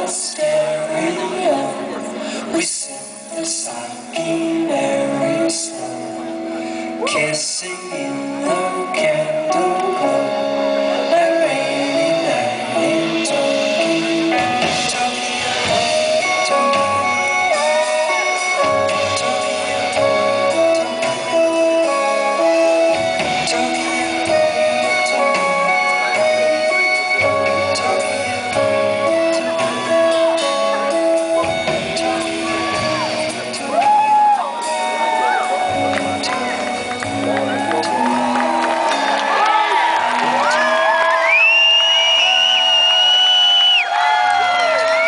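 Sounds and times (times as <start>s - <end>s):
upright bass: 0.0s - 42.6s
keyboard: 0.0s - 45.0s
saxophone melody: 8.2s - 45.0s
drum kit: 8.4s - 45.0s.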